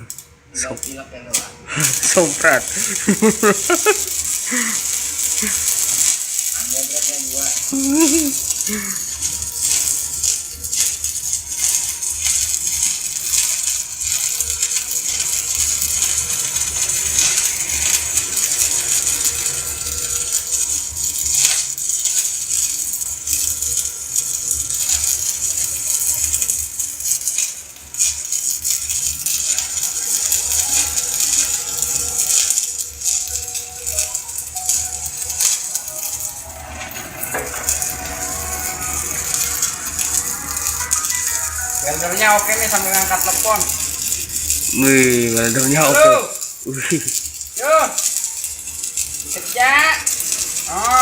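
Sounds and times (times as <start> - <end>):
welding arc crackling: 0.0 - 51.0.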